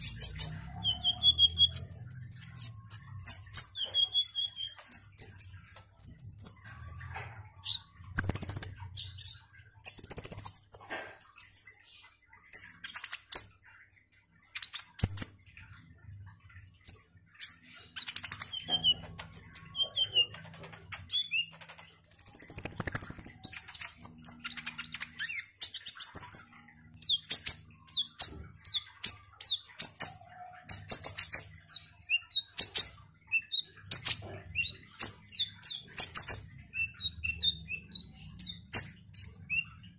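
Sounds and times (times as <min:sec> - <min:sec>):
sunbird chirping and twittering: 0:00.0 - 0:39.9.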